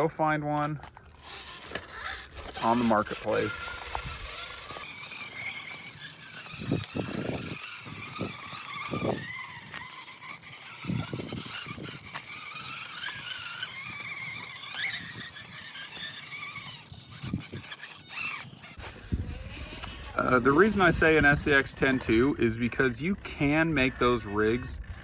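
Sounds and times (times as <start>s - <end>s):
electric motor and gears whining: 0.0s - 25.0s.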